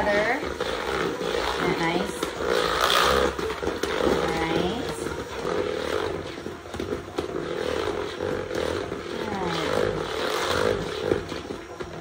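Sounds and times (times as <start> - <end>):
hand mixer running: 0.0 - 12.0.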